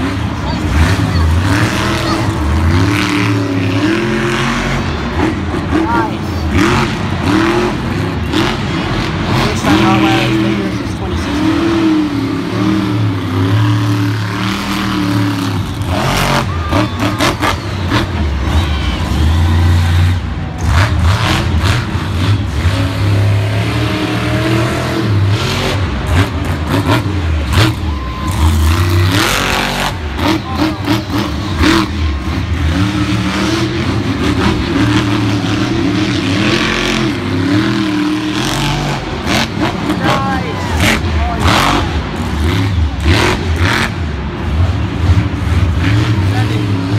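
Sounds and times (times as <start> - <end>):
monster truck engine revving: 0.0 - 46.9.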